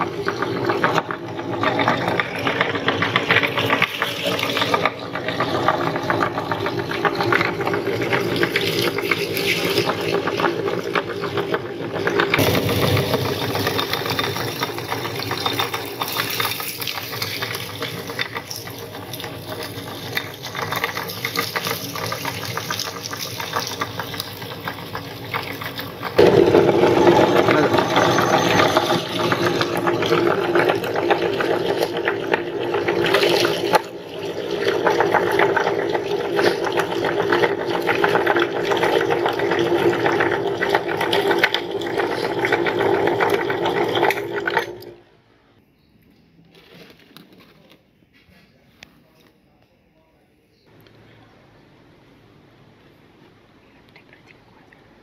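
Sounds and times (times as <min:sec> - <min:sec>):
meat grinder crunching popcorn: 0:00.0 - 0:45.0.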